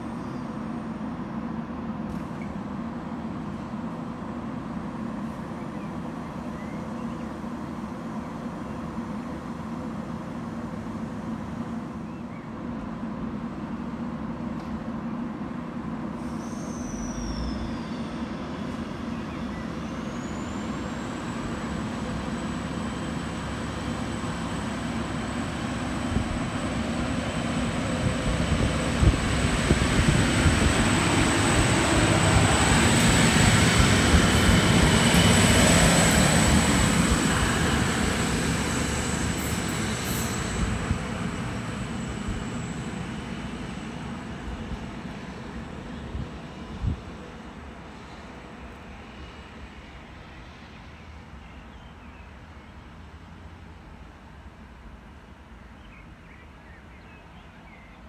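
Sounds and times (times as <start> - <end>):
diesel railcar engine passing: 0.0 - 58.0.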